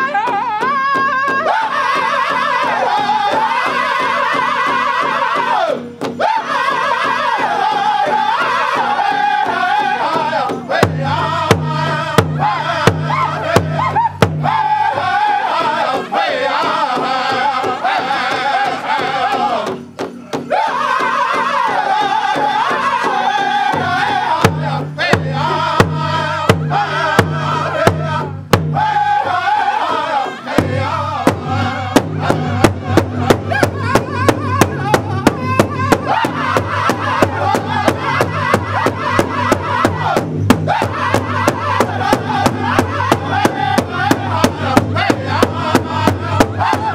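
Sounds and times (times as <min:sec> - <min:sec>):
group singing: 0:00.0 - 0:46.9
large hide drum beating: 0:00.0 - 0:46.9.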